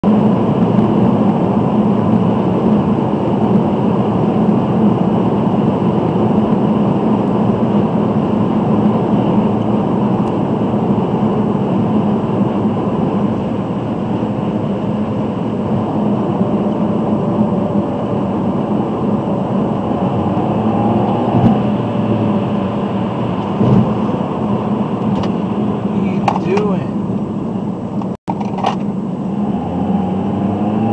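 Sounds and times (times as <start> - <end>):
car road and engine noise: 0.0 - 30.9.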